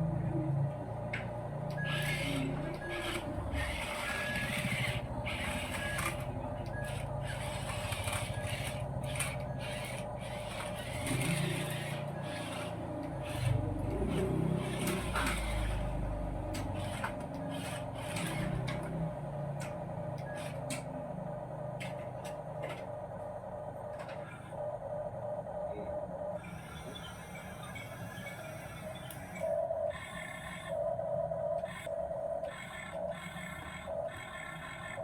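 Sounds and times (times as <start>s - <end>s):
toy truck motor whining: 1.6s - 20.9s, 24.0s - 24.6s, 26.4s - 35.0s.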